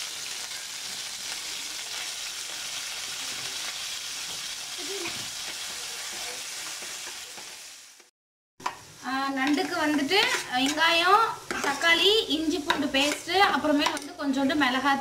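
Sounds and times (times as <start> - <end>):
oil sizzling in a pan: 0.0 - 15.0
spatula stirring food: 0.3 - 14.5.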